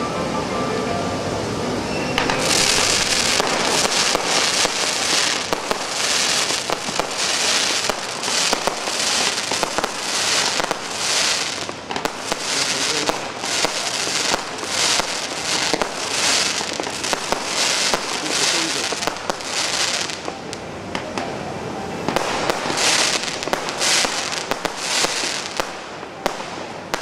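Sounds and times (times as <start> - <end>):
fireworks hiss: 1.9 - 21.2, 22.0 - 27.0
fireworks bangs and crackles: 2.1 - 27.0.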